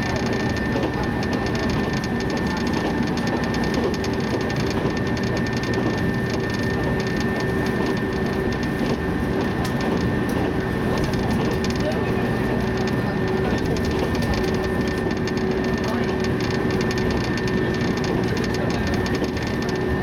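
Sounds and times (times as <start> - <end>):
rumble of train wheels on rail: 0.0 - 20.0.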